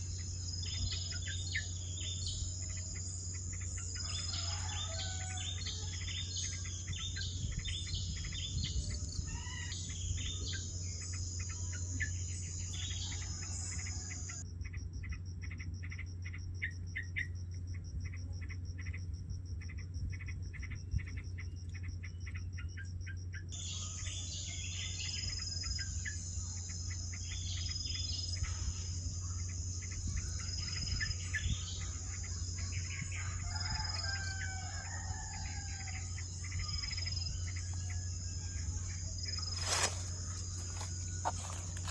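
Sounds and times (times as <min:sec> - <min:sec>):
crickets and insects droning: 0:00.0 - 0:41.9
low hum: 0:00.0 - 0:41.9.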